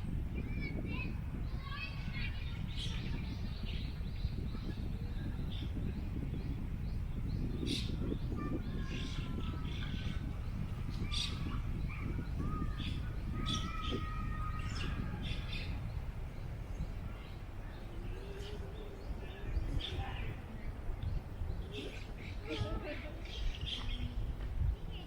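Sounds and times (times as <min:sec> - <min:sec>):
distant voices: 0:00.0 - 0:25.0
small birds chirping: 0:00.0 - 0:25.0
wind rumble on microphone: 0:00.0 - 0:25.0.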